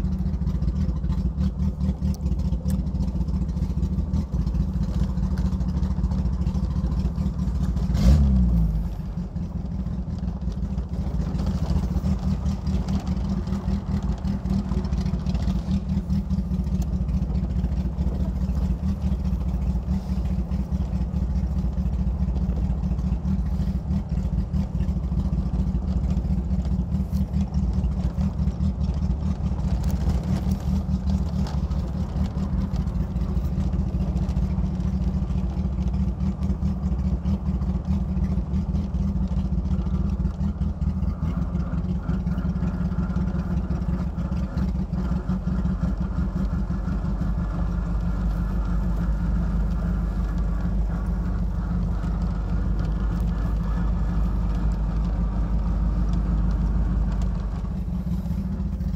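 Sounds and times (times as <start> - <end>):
rough vehicle engine rumble: 0.0 - 58.9.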